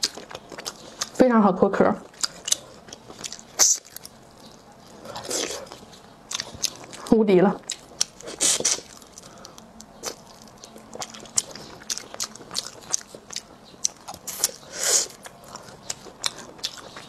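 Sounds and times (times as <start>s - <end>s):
crunchy biting and chewing: 0.0s - 1.2s, 2.0s - 17.0s.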